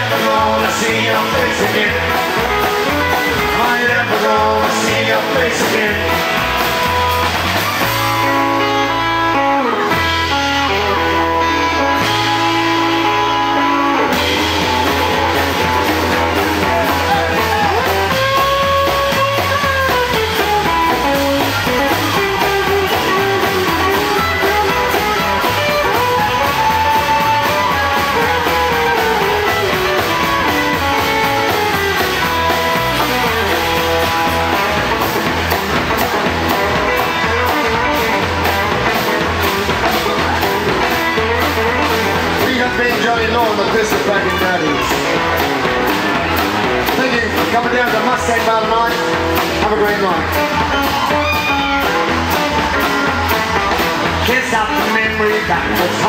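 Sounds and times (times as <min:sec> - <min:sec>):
electric guitar lead: 0:00.0 - 0:56.0
rockabilly band playing: 0:00.0 - 0:56.0.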